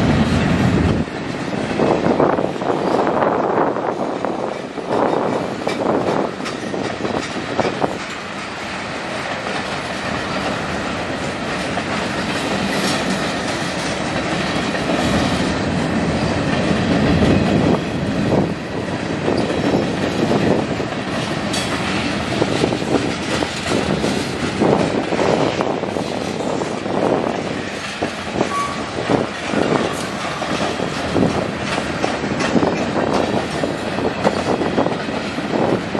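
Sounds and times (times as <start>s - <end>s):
train wheels rumbling on rail: 0.0s - 35.9s
wheels clacking over rail joints: 0.0s - 35.9s.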